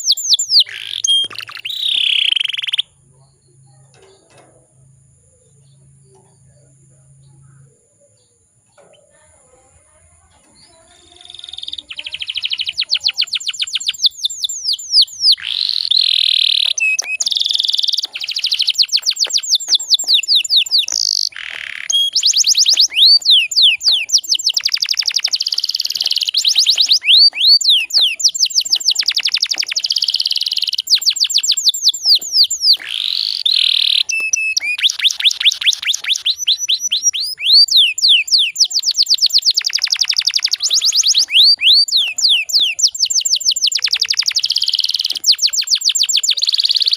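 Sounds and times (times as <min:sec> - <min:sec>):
canary singing rapid trills: 0:00.0 - 0:04.4, 0:10.4 - 0:46.9.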